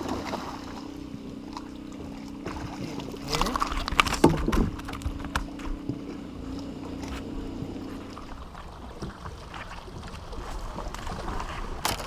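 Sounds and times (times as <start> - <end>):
boat motor humming: 0.0 - 12.0
water noise: 0.0 - 12.0.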